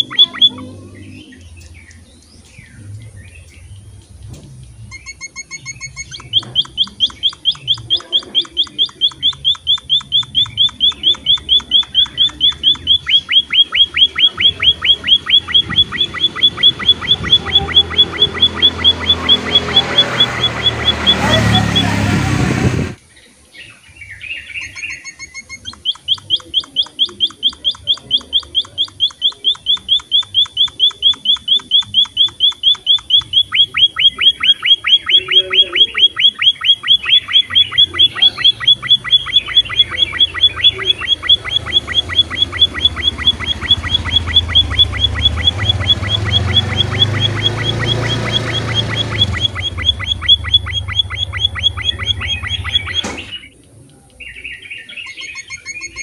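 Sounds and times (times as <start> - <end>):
finch chirping rapidly: 0.0 - 23.0, 24.0 - 53.6, 54.2 - 56.0.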